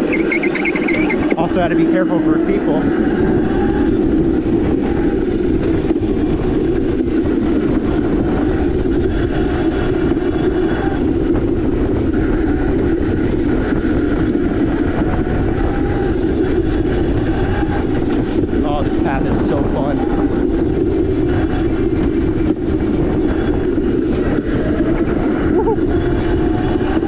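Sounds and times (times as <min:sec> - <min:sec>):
electric motor whine: 0:00.0 - 0:27.0
small wheels rolling on pavement: 0:00.0 - 0:27.0.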